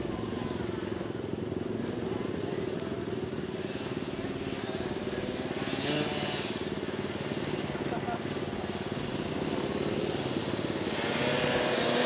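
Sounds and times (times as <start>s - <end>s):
quad engine running at low throttle: 0.0s - 12.0s.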